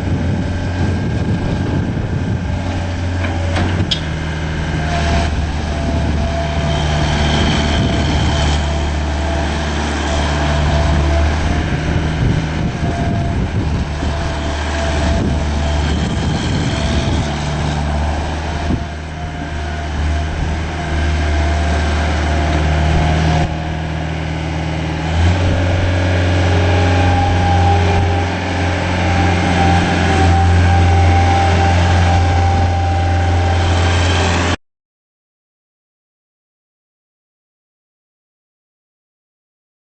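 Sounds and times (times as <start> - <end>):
diesel engine running: 0.0 - 34.6.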